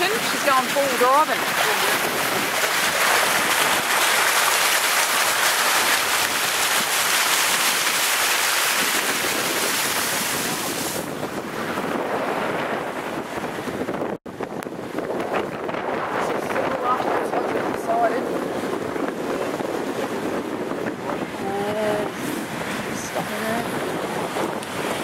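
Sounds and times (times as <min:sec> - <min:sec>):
tyres ploughing through floodwater: 0:00.0 - 0:13.7, 0:14.7 - 0:25.0.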